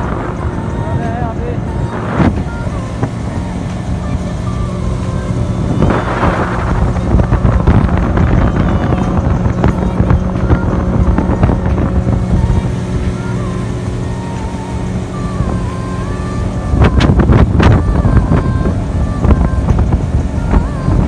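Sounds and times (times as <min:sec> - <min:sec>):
speedboat engine droning: 0:00.0 - 0:21.0
wind buffeting microphone: 0:00.0 - 0:21.0.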